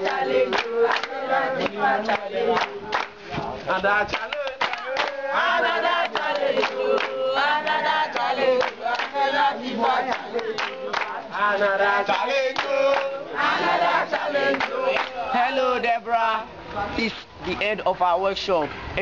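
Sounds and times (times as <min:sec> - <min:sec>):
rhythmic hand-clapping: 0:00.0 - 0:16.0
group singing together: 0:00.0 - 0:16.5.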